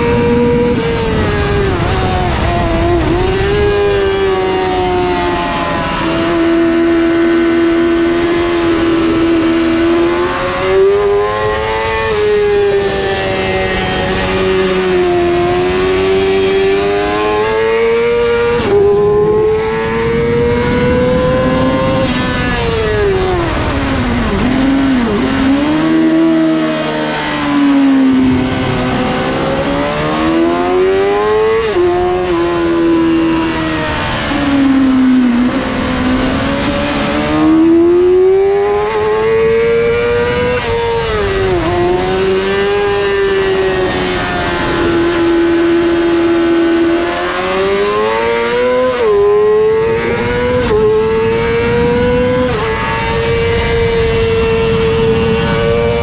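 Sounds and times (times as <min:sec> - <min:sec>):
motorcycle engine revving high: 0:00.0 - 0:56.0.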